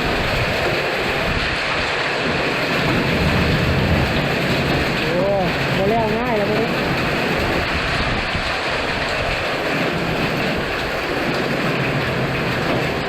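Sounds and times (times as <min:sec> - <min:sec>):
storm wind and rain: 0:00.0 - 0:13.0
wind buffeting microphone: 0:00.0 - 0:13.0.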